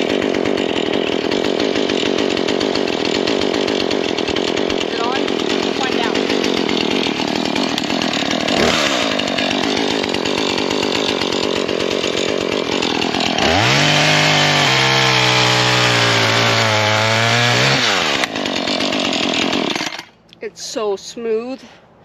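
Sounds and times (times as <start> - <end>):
chainsaw engine revving: 0.0 - 20.2.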